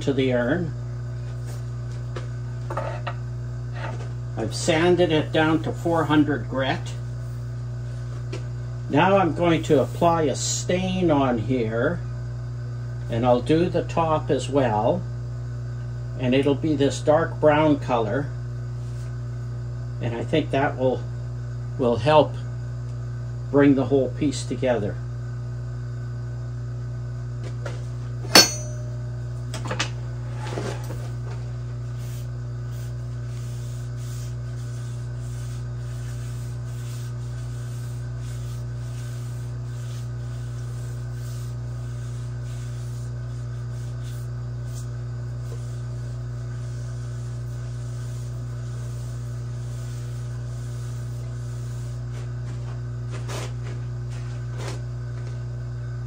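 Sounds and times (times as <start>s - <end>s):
vacuum pump motor hum: 0.0s - 56.0s.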